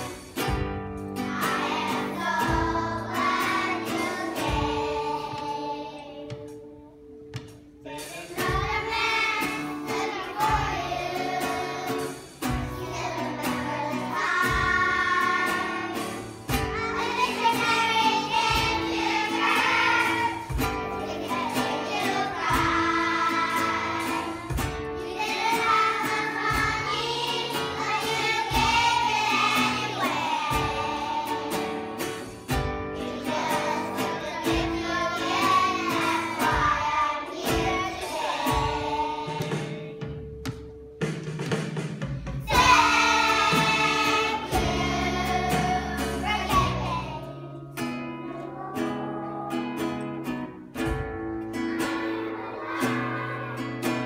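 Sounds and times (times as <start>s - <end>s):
children's choir singing: 0.0s - 40.2s, 42.2s - 54.0s
strummed acoustic guitar: 0.0s - 54.0s.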